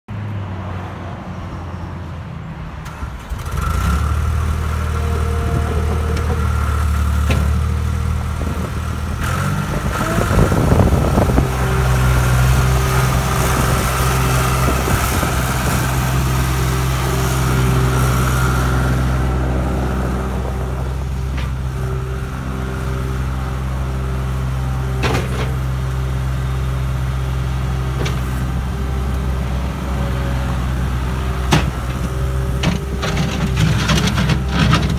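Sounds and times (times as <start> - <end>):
diesel engine running: 2.8 - 34.9.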